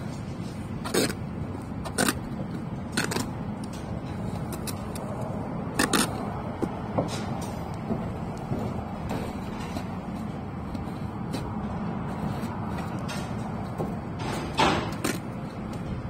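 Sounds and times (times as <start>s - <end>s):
trowel clicking and scraping bricks: 0.0s - 7.7s, 9.0s - 16.0s
steady low rumble: 0.0s - 16.0s.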